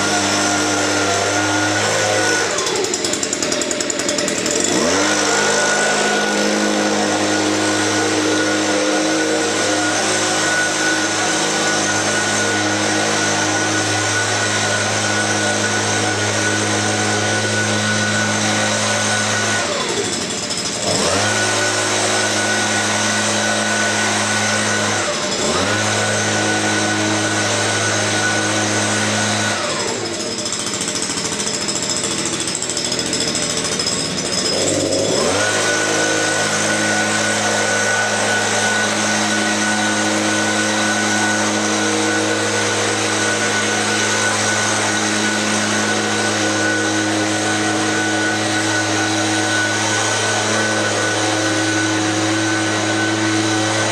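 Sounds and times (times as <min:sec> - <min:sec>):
leaf blower engine running: 0:00.0 - 0:53.9.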